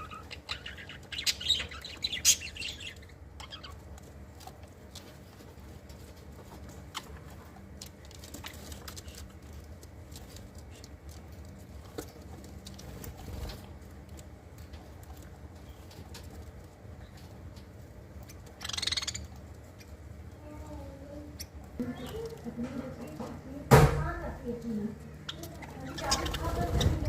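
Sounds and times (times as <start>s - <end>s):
wings fluttering: 0.0s - 20.8s, 25.2s - 27.0s
low steady hum: 0.0s - 27.0s
small birds chirping: 0.0s - 27.0s.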